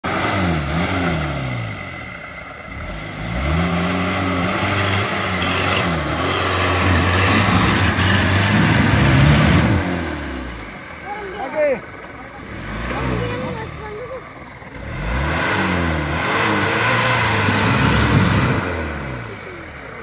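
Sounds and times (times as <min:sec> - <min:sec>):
diesel engine revving hard: 0:00.0 - 0:20.0.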